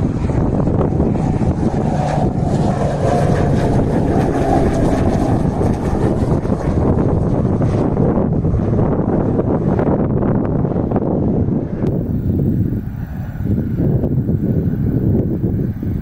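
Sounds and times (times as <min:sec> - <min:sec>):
propeller aircraft passing overhead: 0:00.0 - 0:16.0
wind rumble on microphone: 0:00.0 - 0:16.0.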